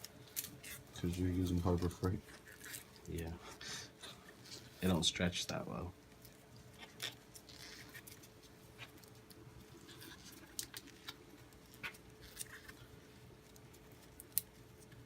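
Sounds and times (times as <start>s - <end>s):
hands working electrical tape: 0.0s - 3.6s, 6.1s - 15.0s
faint steady hum: 0.0s - 15.0s.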